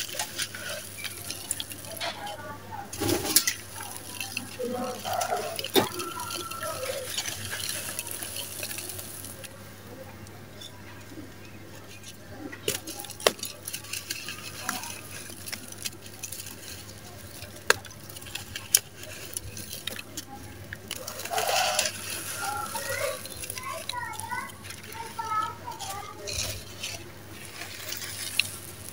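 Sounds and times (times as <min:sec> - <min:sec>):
grainy crunching of crumbling cement: 0:00.0 - 0:09.6, 0:11.1 - 0:28.9
trickling of falling grit: 0:00.0 - 0:28.9.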